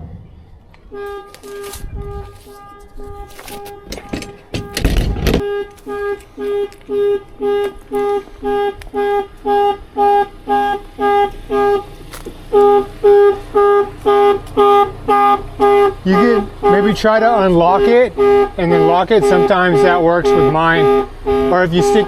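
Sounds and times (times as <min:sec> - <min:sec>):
car horn honking: 0:00.8 - 0:22.0.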